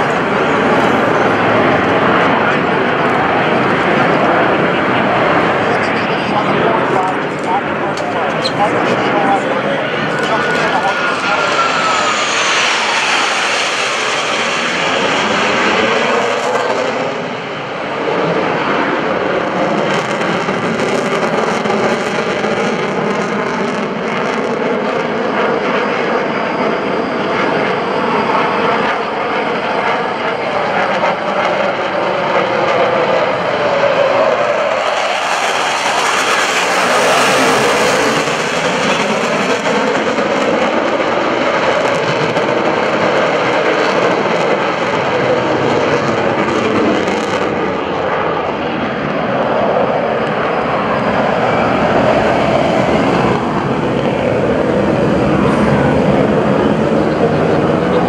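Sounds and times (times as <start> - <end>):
loud jet noise: 0.0 - 58.0.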